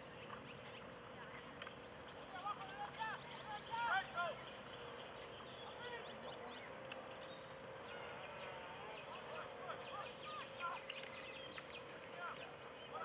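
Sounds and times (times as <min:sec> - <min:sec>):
distant voices: 0:00.0 - 0:13.0.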